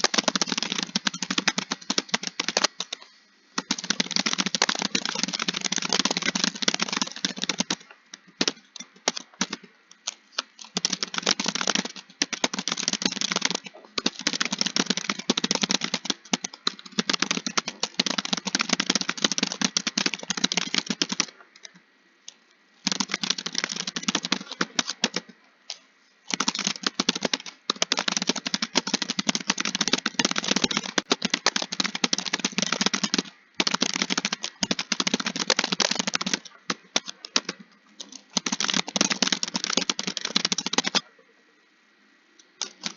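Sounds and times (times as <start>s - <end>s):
rapid typing on keyboard: 0.0s - 25.3s, 26.3s - 41.1s, 42.6s - 42.9s.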